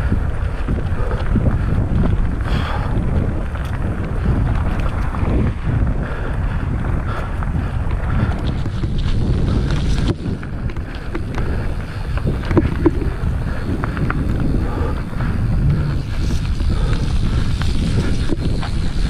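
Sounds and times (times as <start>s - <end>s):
bike rattling: 0.0s - 19.0s
wind buffeting microphone: 0.0s - 19.0s.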